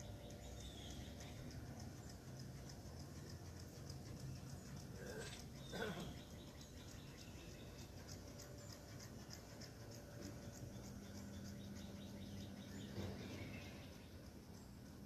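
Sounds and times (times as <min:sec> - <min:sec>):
rhythmic high-pitched chirping: 0:00.0 - 0:15.0
steady low hum: 0:00.0 - 0:15.0.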